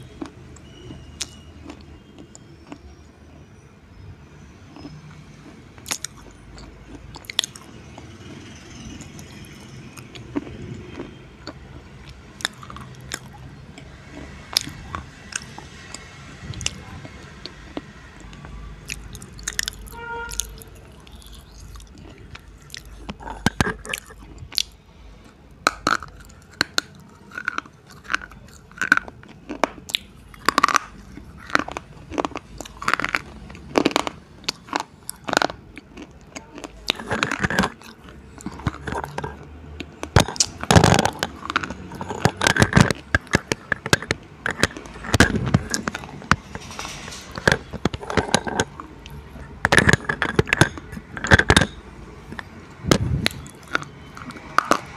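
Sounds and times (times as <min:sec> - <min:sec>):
slate pencils being chewed: 0:00.0 - 0:03.2, 0:04.6 - 0:54.9.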